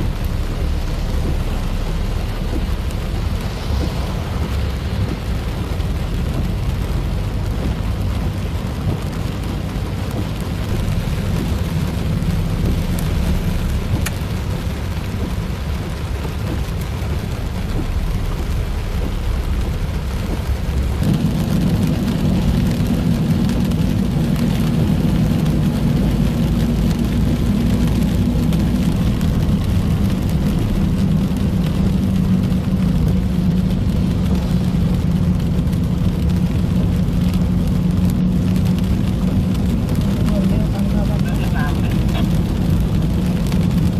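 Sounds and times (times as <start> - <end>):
engine and road noise: 0.0 - 43.9
heavy rain on a car: 0.0 - 43.9.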